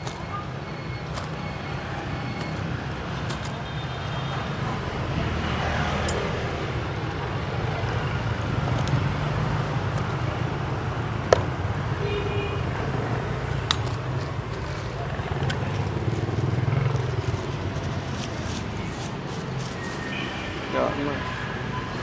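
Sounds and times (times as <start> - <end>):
passing vehicles rumble: 0.0 - 22.0.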